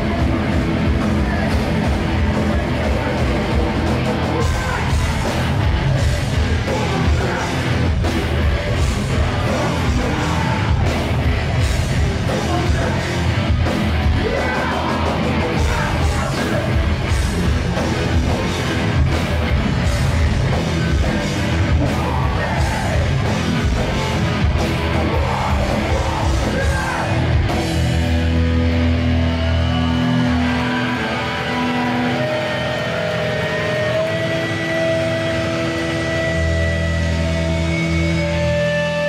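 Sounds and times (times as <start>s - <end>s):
punk band playing live: 0.0s - 39.0s
shouted lead vocal: 0.0s - 39.0s.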